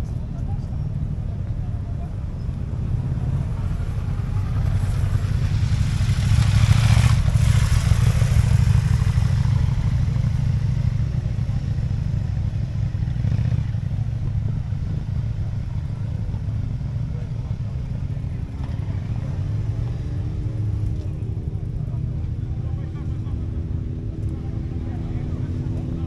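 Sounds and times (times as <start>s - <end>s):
motorcycle engines rumbling: 0.0s - 26.0s
motorcycle passing by: 2.9s - 26.0s.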